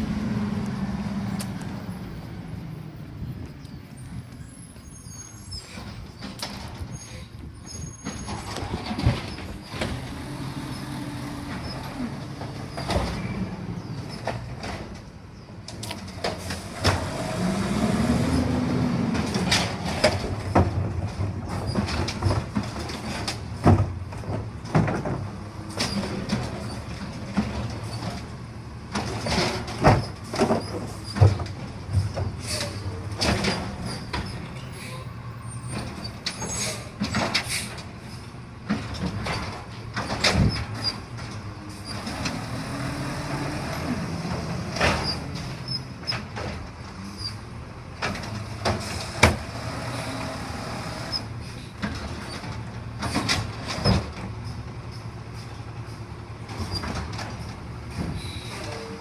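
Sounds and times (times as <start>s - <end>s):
garbage truck engine hum: 7.9s - 59.0s.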